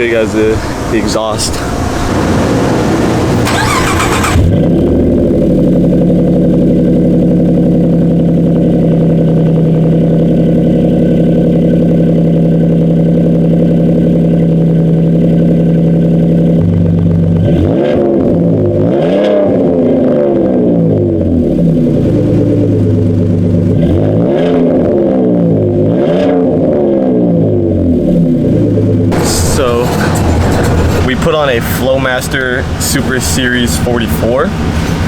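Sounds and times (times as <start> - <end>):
truck exhaust idling: 0.0 - 18.9, 19.8 - 25.9, 27.4 - 35.0
engine revving: 0.0 - 35.0.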